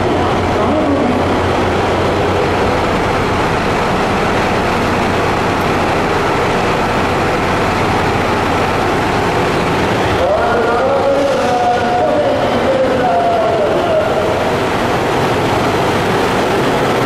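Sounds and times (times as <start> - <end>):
diesel railcar engines idling: 0.0 - 17.0.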